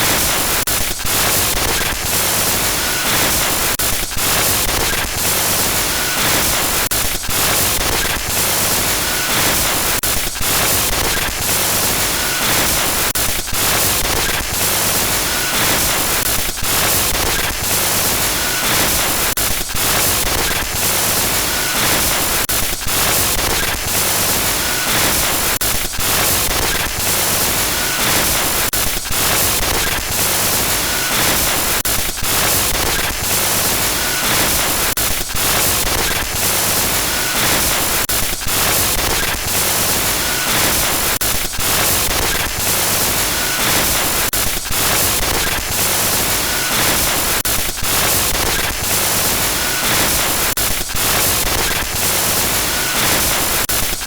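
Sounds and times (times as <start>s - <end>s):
harsh glitch static hiss: 0.0s - 54.0s.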